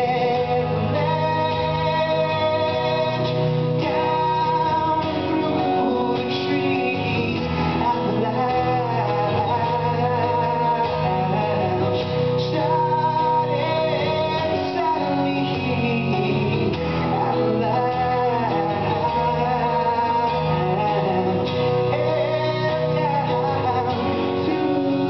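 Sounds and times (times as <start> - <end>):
acoustic guitar strumming: 0.0 - 25.0
man singing: 0.0 - 25.0.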